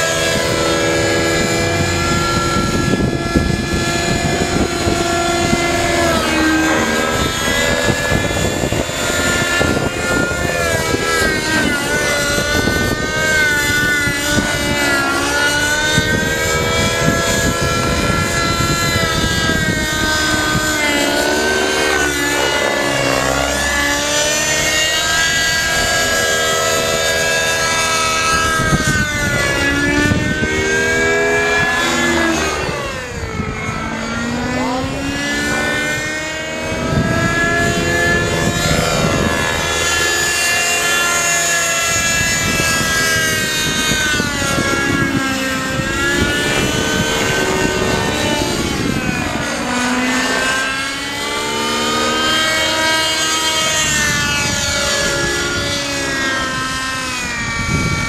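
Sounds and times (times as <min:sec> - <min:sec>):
rc helicopter engine and rotor: 0:00.0 - 0:58.0.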